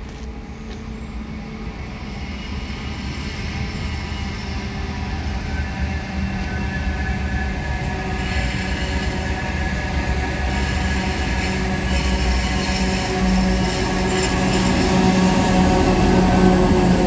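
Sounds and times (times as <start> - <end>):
diesel locomotive engine hum: 0.0 - 17.0
train wheels on rails: 0.0 - 17.0.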